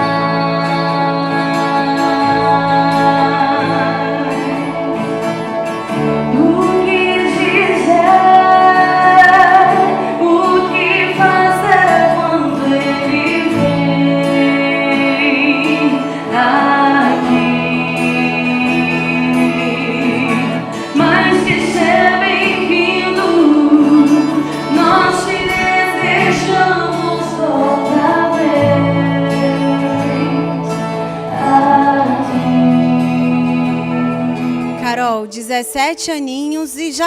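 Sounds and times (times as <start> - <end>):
woman singing: 0.0 - 5.3, 6.0 - 37.0
bass: 0.0 - 35.0
acoustic guitar: 0.0 - 37.0
keyboard playing: 0.0 - 37.0.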